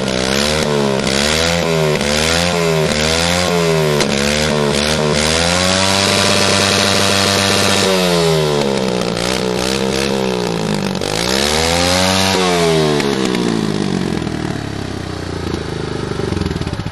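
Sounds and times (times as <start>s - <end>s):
dirt bike engine revving: 0.0s - 16.9s.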